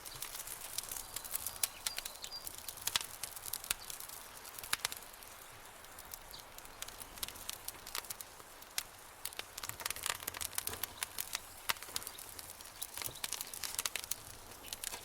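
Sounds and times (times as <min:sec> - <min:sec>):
campfire crackling: 0:00.0 - 0:15.0
soft hiss: 0:00.0 - 0:15.0.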